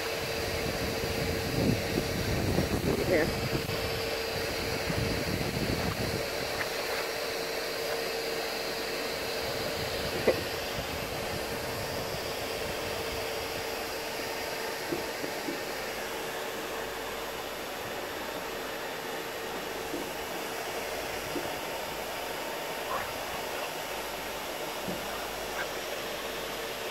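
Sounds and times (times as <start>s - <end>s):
vacuum cleaner running: 0.0s - 26.9s.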